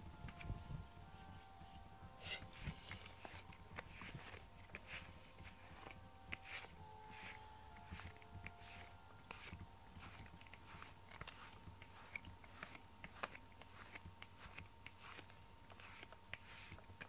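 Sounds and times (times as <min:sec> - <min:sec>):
brush scratching through cat fur: 0:00.3 - 0:17.0.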